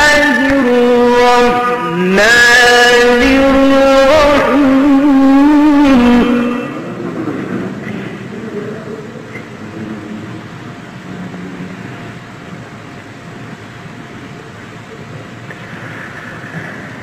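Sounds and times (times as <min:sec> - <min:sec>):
room noise murmur: 0:00.0 - 0:17.0.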